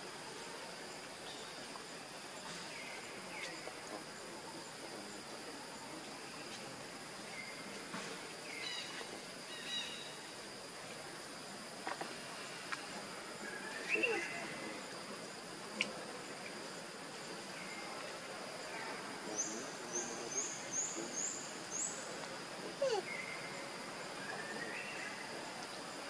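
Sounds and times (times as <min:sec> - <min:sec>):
forest insects droning: 0:00.0 - 0:26.0.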